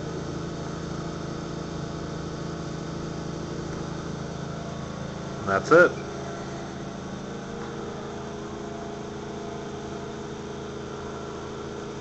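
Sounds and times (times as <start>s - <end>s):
laser cutter humming: 0.0s - 12.0s.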